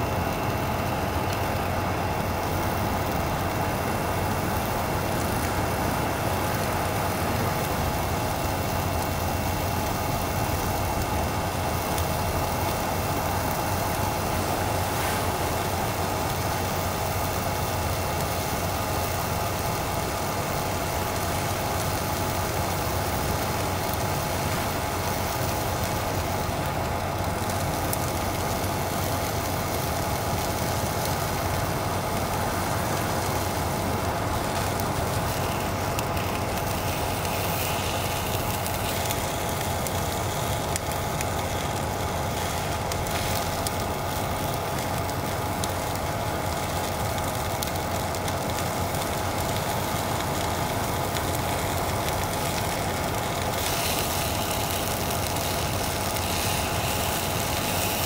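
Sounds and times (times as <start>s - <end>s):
gas stove hissing: 0.0s - 58.0s
steady hum: 0.0s - 58.0s.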